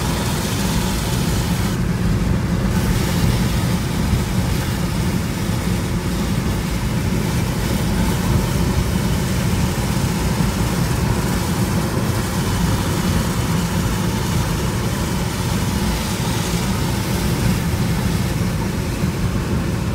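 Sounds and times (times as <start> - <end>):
car road noise rumble: 0.0 - 19.9
tyres hissing on wet pavement: 0.0 - 19.9.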